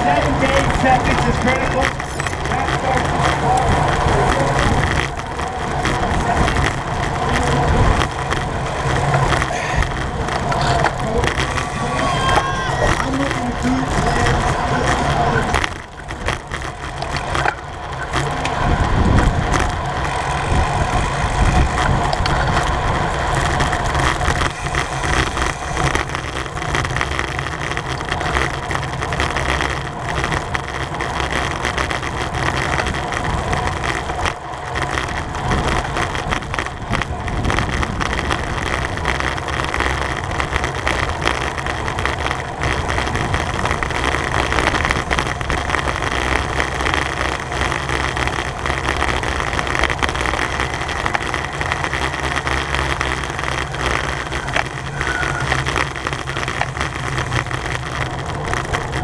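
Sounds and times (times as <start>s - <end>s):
bicycle road noise: 0.0s - 59.0s
low rumble: 0.0s - 59.0s
rushing wind: 0.0s - 59.0s.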